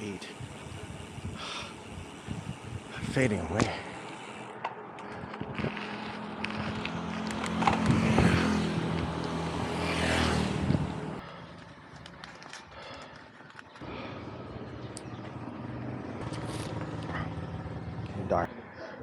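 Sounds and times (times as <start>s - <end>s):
vehicle passing on road: 0.2s - 18.5s.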